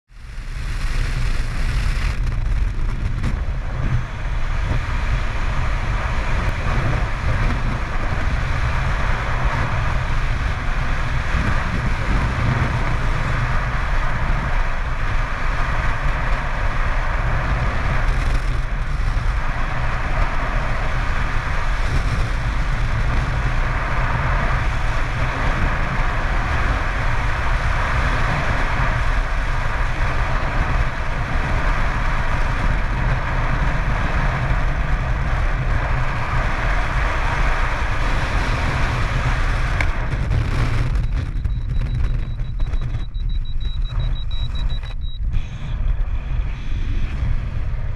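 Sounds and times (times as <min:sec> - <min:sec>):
wind buffeting microphone: 0:00.5 - 0:47.9.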